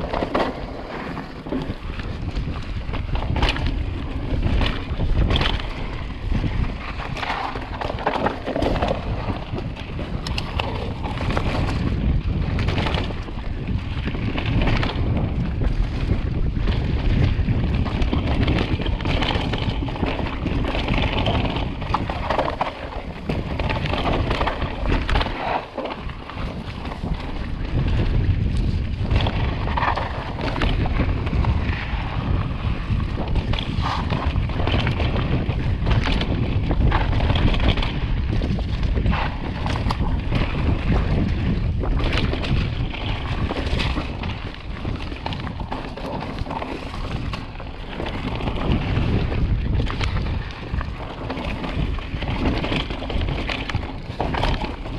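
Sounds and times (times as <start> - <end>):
bike rattles and knocks: 0.0 - 54.9
wind buffeting microphone: 0.0 - 54.9
tyre noise on dirt: 2.2 - 54.9.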